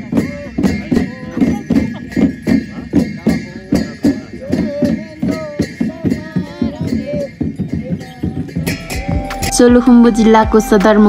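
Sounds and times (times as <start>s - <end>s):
ritual chanting: 0.0s - 9.8s
jingling bells beat: 0.0s - 11.0s.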